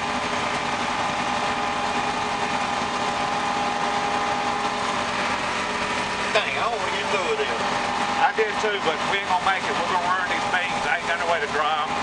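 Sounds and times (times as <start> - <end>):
combine machinery drone: 0.0 - 12.0
constant whine: 0.0 - 12.0.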